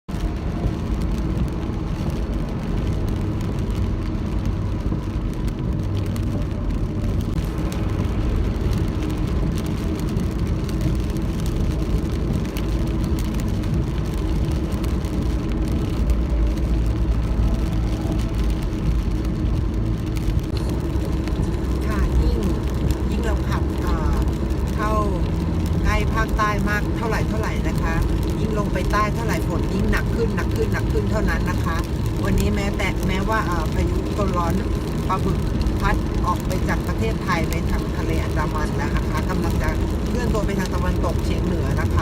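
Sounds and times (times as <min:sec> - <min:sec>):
car engine and tyre rumble: 0:00.0 - 0:42.0
rain on car: 0:00.0 - 0:42.0.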